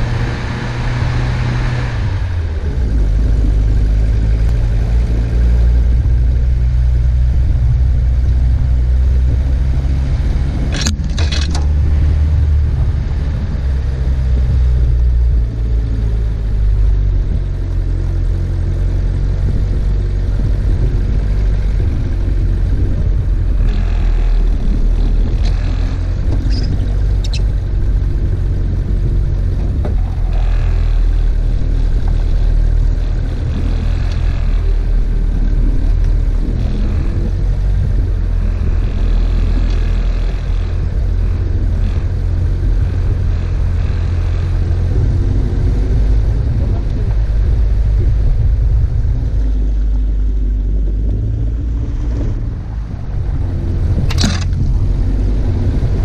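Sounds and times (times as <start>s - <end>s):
vehicle engine droning: 0.0s - 56.0s
light rattles: 2.6s - 49.8s.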